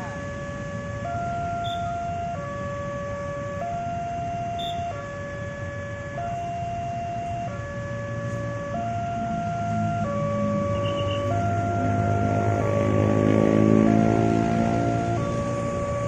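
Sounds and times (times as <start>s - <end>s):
two-tone siren: 0.0s - 16.0s.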